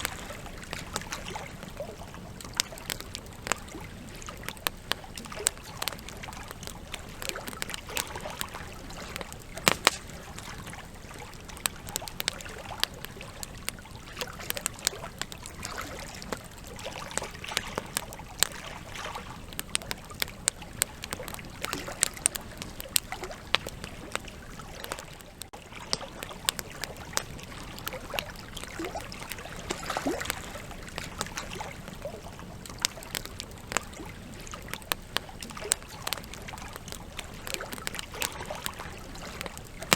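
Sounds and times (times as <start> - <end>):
burning logs crackling and popping: 0.0 - 39.9
campfire hiss and rumble: 0.0 - 39.9.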